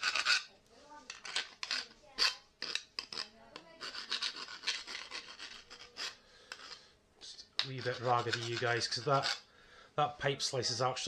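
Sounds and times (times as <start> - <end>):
file scraping copper pipe: 0.0 - 9.5.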